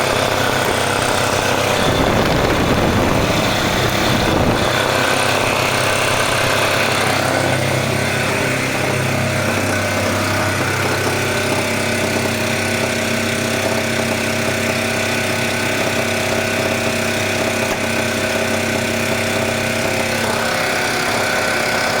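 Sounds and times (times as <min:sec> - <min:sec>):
generator engine running: 0:00.0 - 0:22.0.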